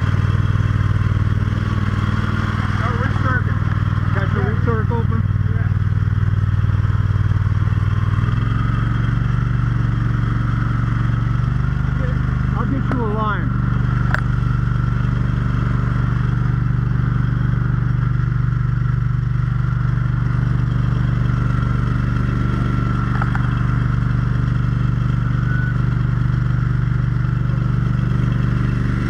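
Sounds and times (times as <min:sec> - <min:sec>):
engine-driven pump running: 0:00.0 - 0:29.0.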